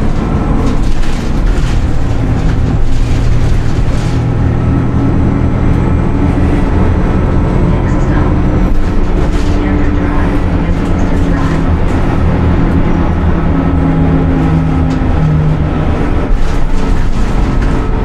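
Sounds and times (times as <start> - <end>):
bus engine drone: 0.0 - 18.0
road noise: 0.0 - 18.0.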